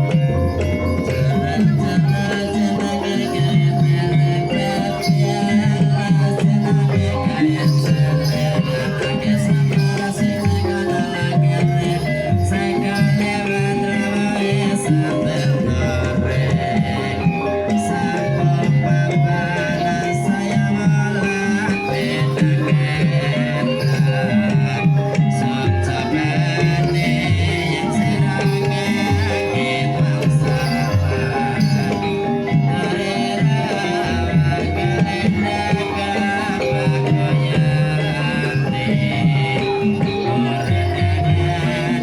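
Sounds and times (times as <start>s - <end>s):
person singing: 0.0s - 42.0s
ringing metal tones: 0.0s - 42.0s.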